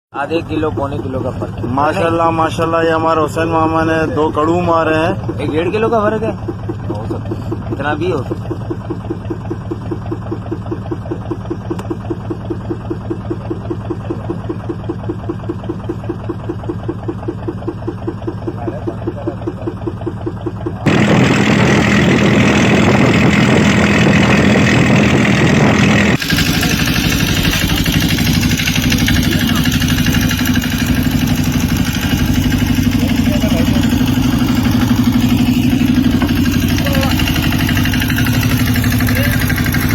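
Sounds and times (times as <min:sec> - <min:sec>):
engine running: 0:00.2 - 0:39.9.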